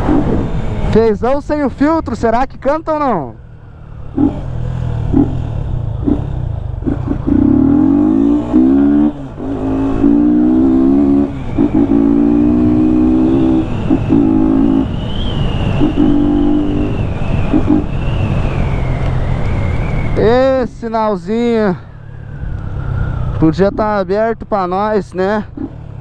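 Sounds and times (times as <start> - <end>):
motorcycle engine revving: 0.0 - 20.8, 25.0 - 26.0.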